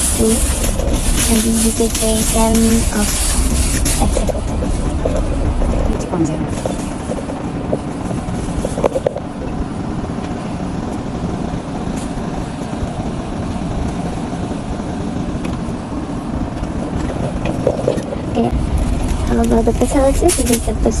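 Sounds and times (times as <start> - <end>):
train coach rumble and hiss: 0.0 - 21.0.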